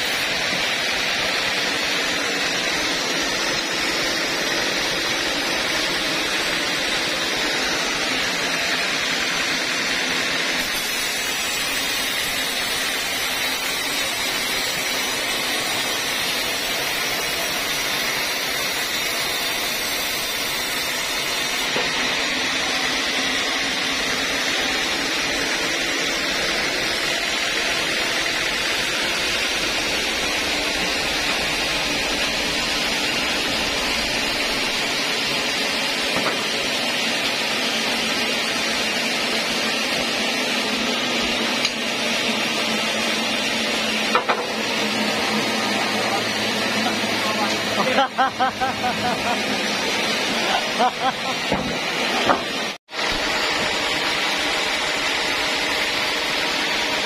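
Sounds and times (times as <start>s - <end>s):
band saw cutting timber: 0.0s - 57.0s.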